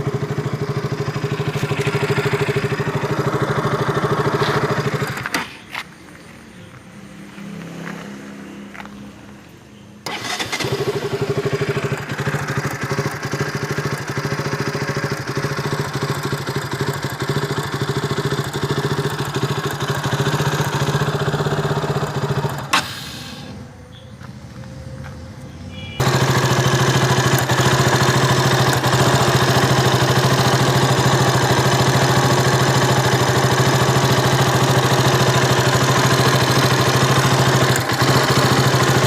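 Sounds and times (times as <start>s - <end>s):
motorcycle engine running: 0.0s - 5.4s, 10.1s - 25.1s, 25.7s - 39.0s.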